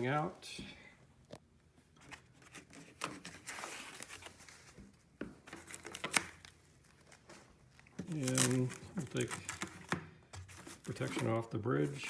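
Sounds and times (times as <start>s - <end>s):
packing padding rustling: 2.1s - 12.0s.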